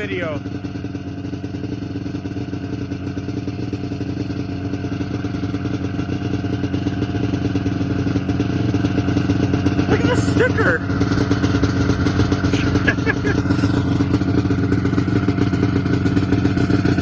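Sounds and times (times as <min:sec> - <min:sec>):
snowmobile engine idling: 0:00.0 - 0:17.0.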